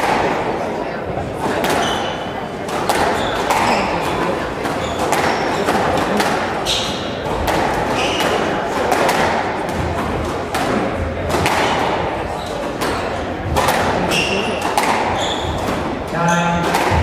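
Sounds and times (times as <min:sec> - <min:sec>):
squash ball knocks: 0:01.5 - 0:06.6, 0:07.2 - 0:16.0, 0:16.6 - 0:17.0.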